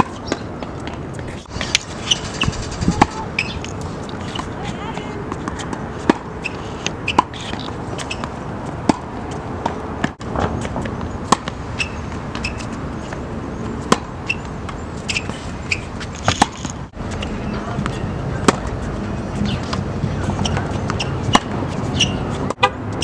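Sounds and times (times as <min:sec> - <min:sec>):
tennis ball bouncing on hard court: 0:00.0 - 0:01.8, 0:02.9 - 0:18.8, 0:19.4 - 0:23.0
tennis ball struck by rackets: 0:00.0 - 0:01.8, 0:02.9 - 0:12.8, 0:13.8 - 0:17.2, 0:17.8 - 0:18.8, 0:19.4 - 0:22.8
open-air background noise: 0:00.0 - 0:23.0.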